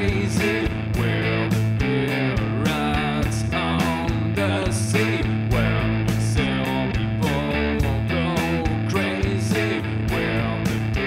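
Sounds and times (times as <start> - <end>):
bass line: 0.0 - 11.0
drums: 0.0 - 11.0
strummed electric guitar: 0.0 - 11.0.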